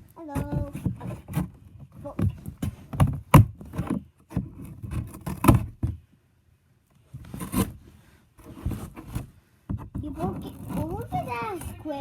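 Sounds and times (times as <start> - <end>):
cardboard scraping and knocking: 0.0 - 6.1, 7.0 - 12.0.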